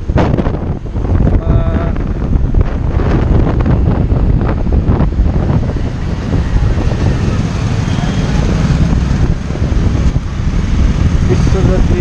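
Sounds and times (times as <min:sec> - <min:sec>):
road and traffic noise: 0:00.0 - 0:12.0
wind buffeting microphone: 0:00.0 - 0:12.0.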